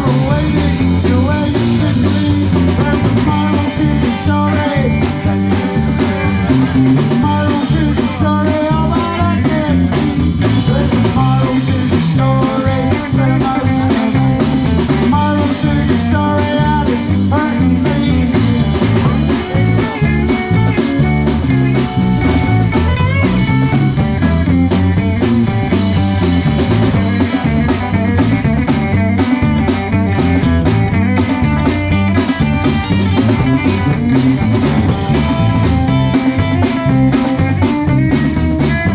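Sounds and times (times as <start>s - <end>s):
bass guitar: 0.0s - 38.9s
drum kit: 0.0s - 38.9s
electric lead guitar: 0.0s - 38.9s
percussion: 0.0s - 38.9s.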